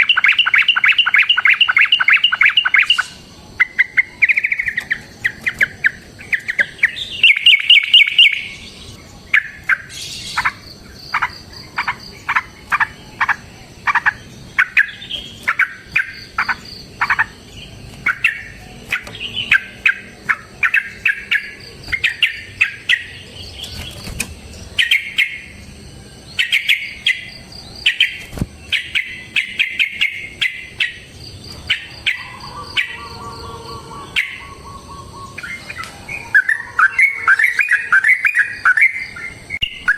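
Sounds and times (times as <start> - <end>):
bulbul chattering song: 0.0 - 39.9
high-pitched insect hum: 0.0 - 39.9.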